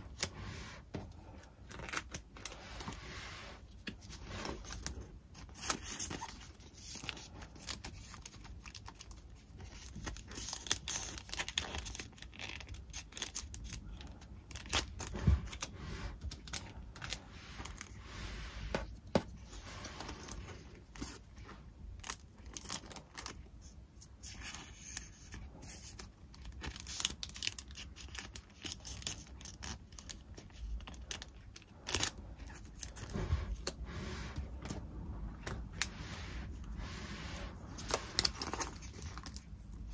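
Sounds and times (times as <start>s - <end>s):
paper and plastic rustling: 0.0s - 39.9s.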